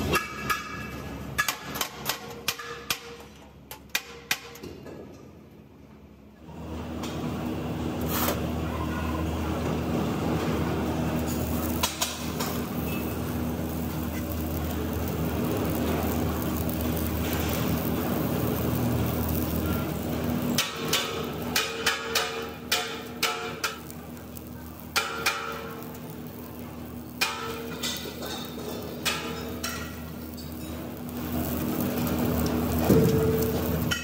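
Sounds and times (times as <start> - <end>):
welding machine hum with hiss: 0.0 - 34.0.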